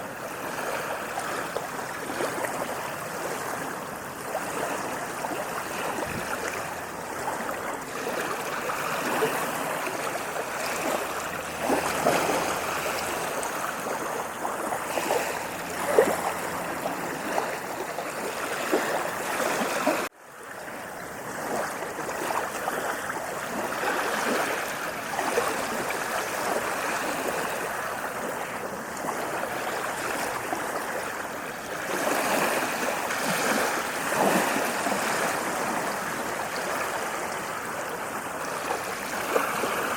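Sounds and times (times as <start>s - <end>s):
waves washing on a sandy beach: 0.0s - 39.9s.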